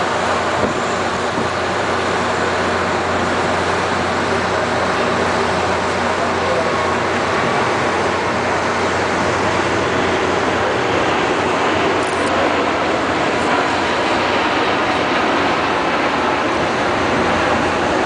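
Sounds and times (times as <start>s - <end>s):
jet airliner engines roaring: 0.0s - 18.0s.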